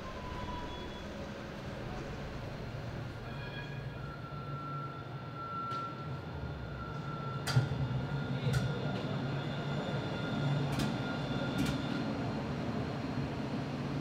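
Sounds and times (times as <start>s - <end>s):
electric whine of rail vehicle: 0.0s - 14.0s.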